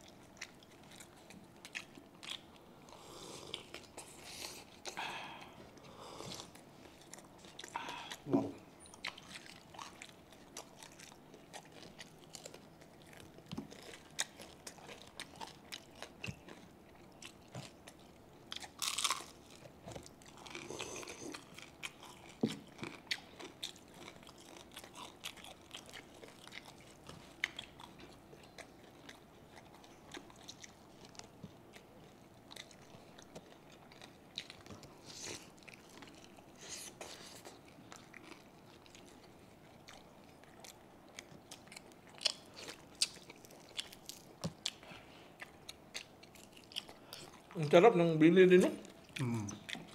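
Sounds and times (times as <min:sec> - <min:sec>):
crunchy chewing: 0:00.0 - 0:47.7.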